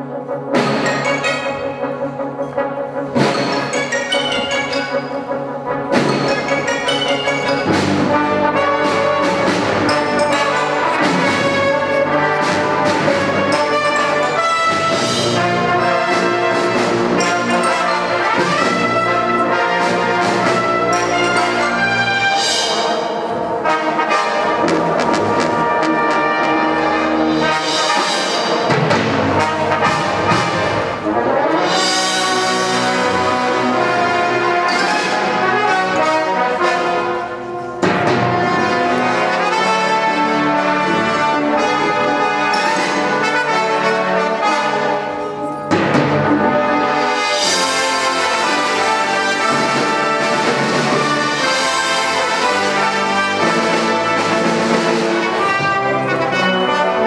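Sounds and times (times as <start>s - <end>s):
trumpets and trombones playing: 0.0s - 57.0s.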